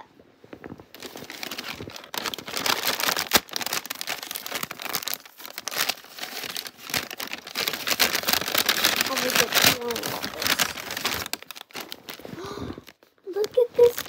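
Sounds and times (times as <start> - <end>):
paper bag crinkling: 0.6 - 14.0.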